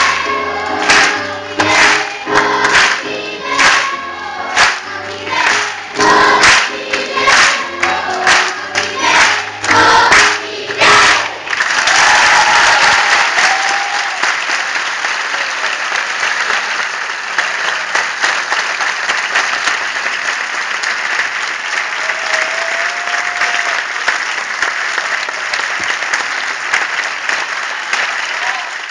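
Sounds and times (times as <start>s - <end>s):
audience applauding: 0.0s - 28.9s.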